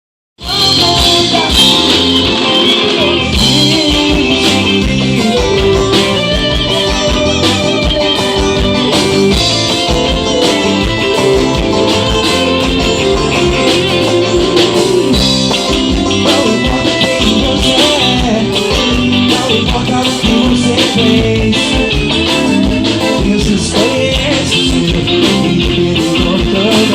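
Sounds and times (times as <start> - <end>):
electric guitar: 0.4 - 26.9
live gospel band playing: 0.4 - 26.9
steady drum beat: 0.4 - 26.9.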